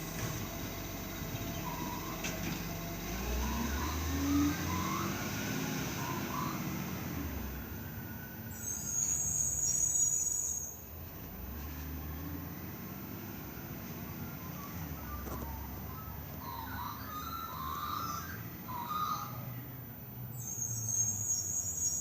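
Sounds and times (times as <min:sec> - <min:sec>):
garbage truck engine running: 0:00.0 - 0:09.8, 0:10.9 - 0:20.6
whining tones: 0:01.2 - 0:10.9, 0:13.4 - 0:22.0.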